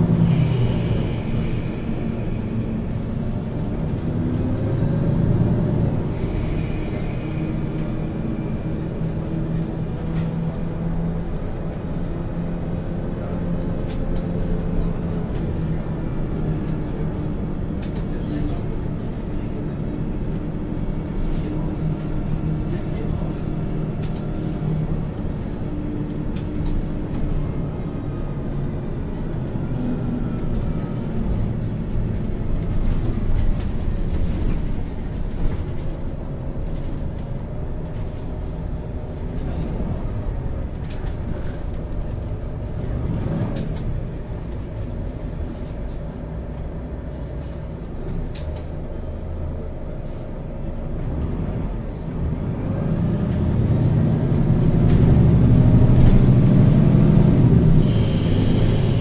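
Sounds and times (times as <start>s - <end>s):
bus engine rumbling: 0.0s - 59.0s.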